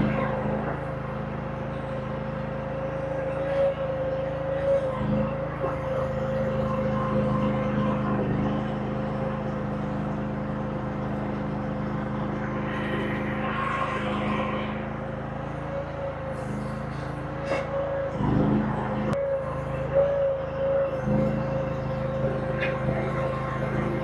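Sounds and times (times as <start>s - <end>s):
earthmoving machine engine: 0.0s - 24.0s
steady whine: 0.0s - 24.0s.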